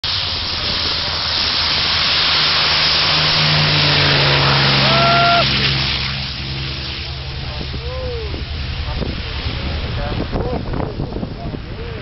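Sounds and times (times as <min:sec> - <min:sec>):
propeller plane engine passing: 0:00.0 - 0:12.0.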